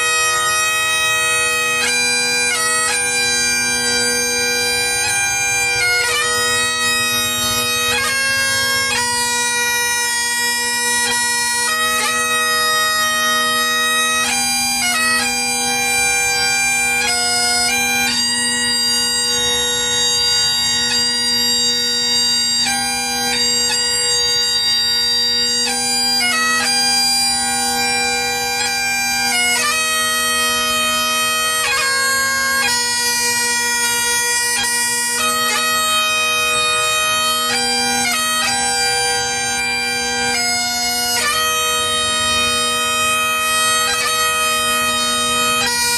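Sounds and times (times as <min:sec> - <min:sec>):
bagpipe playing slow tune: 0:00.0 - 0:45.9.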